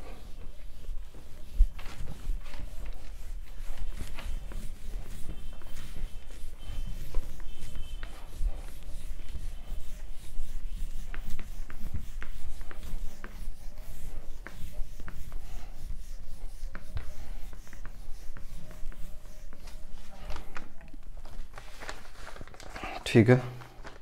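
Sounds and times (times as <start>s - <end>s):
duster rubbing on whiteboard: 0.0s - 21.2s.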